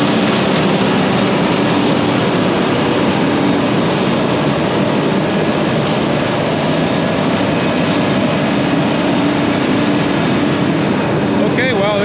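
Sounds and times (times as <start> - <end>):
concrete mixer truck running: 0.0 - 12.0.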